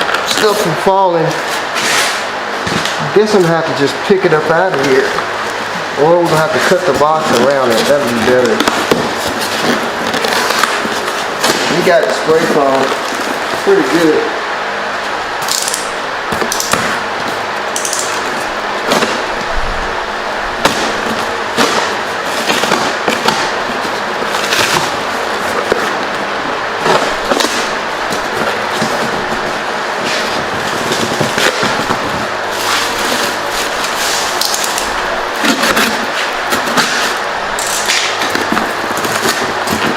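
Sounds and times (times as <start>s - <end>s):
foam packing crunching and snapping: 0.0s - 19.8s, 20.5s - 39.9s.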